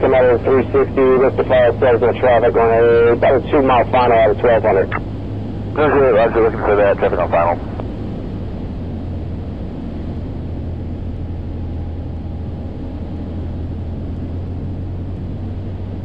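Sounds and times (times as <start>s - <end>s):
plane engine and propeller droning: 0.0s - 16.0s.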